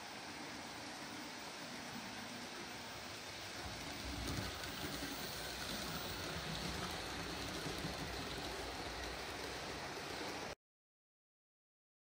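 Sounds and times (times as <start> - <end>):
model train rumbling on track: 0.0 - 10.6.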